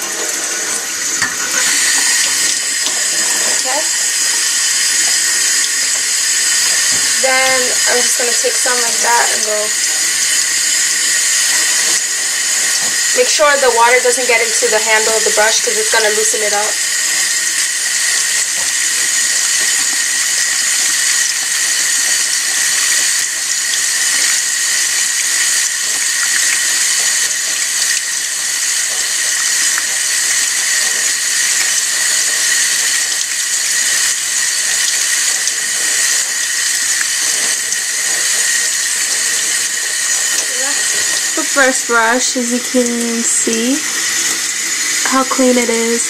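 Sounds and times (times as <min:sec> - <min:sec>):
faucet running into steel sink: 0:00.0 - 0:46.0.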